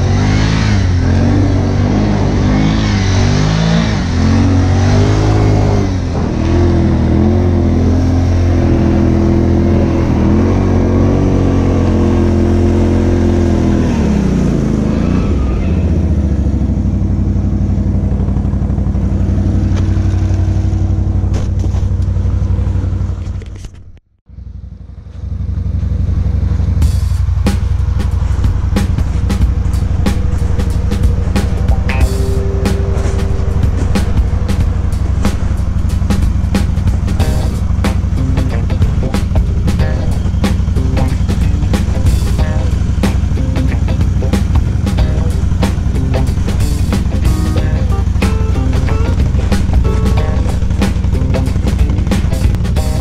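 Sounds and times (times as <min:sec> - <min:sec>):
atv engine revving and idling: 0:00.0 - 0:23.6, 0:24.3 - 0:53.0.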